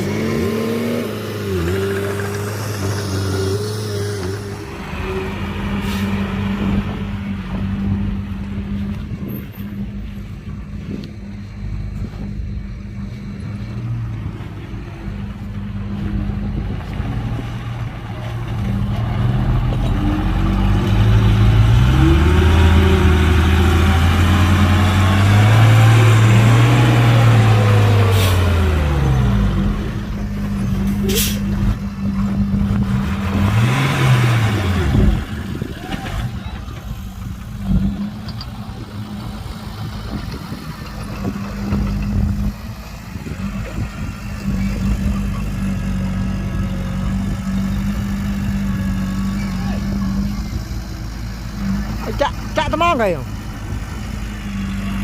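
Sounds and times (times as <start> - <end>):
diesel engine idling and revving: 0.0 - 55.0.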